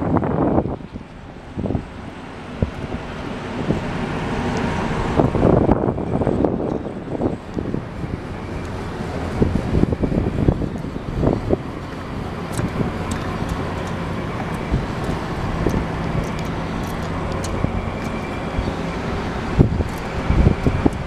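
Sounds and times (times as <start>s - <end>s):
ferry engines droning: 0.0s - 21.0s
wind buffeting microphone: 0.0s - 21.0s.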